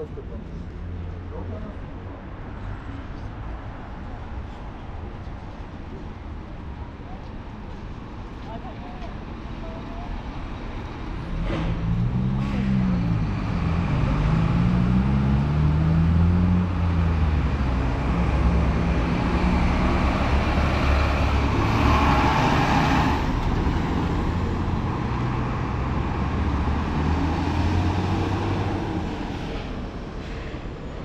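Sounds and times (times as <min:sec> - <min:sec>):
city street traffic: 0:00.0 - 0:31.0
rush of passing traffic: 0:00.0 - 0:31.0
large vehicle engine humming: 0:04.1 - 0:31.0.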